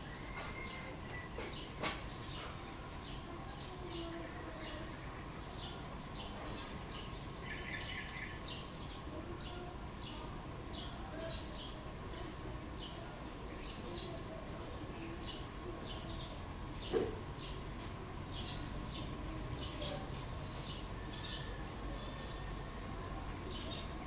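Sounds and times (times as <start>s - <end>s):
small birds chirping: 0.0s - 24.0s
steady background noise: 0.0s - 24.0s.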